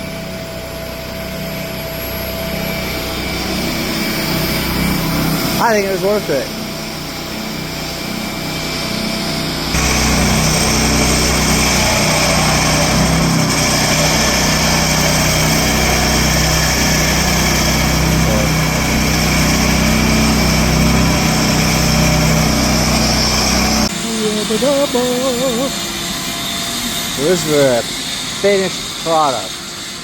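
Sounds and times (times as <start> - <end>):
concrete saw engine cutting: 0.0 - 30.0.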